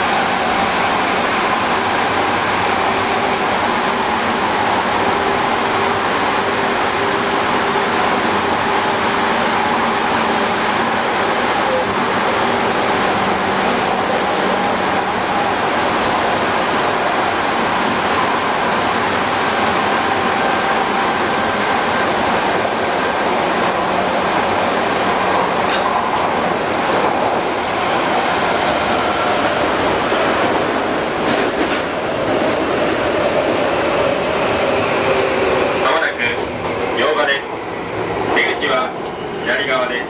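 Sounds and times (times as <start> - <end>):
train wheel and running noise: 0.0 - 40.0.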